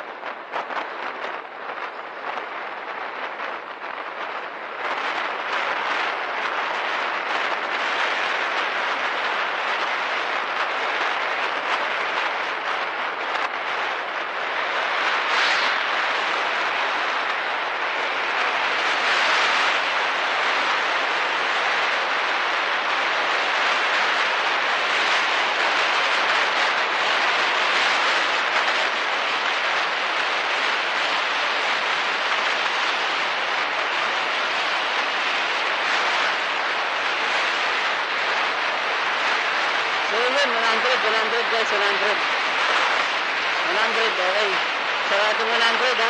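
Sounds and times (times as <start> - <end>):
wind buffeting microphone: 0.0 - 46.0
wind rush: 0.0 - 46.0
road noise: 4.6 - 46.0.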